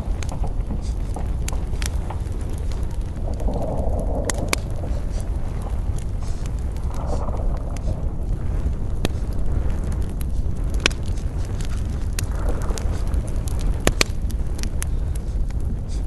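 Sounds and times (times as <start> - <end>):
burning wood popping: 0.0 - 16.0
campfire crackling: 0.0 - 16.0
low rumble: 0.0 - 16.0.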